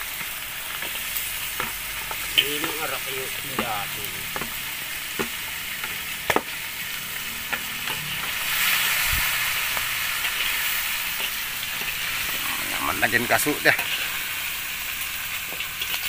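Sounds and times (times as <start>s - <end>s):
meat sizzling in a wok: 0.0s - 16.0s.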